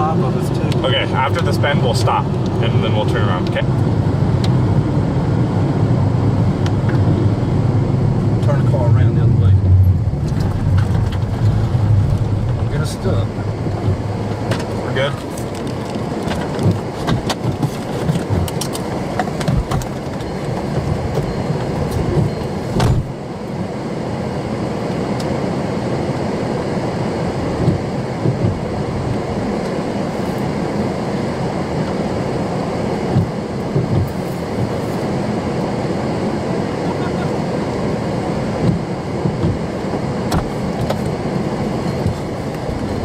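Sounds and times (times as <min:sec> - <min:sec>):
car road and wind noise: 0:00.0 - 0:43.0.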